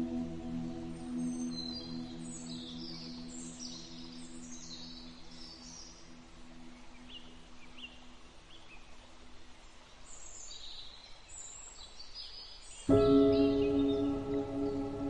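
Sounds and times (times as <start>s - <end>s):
soft ambient music: 0.0s - 11.7s, 12.7s - 15.0s
birds chirping and twittering: 0.0s - 15.0s
faint steady hiss: 0.0s - 15.0s.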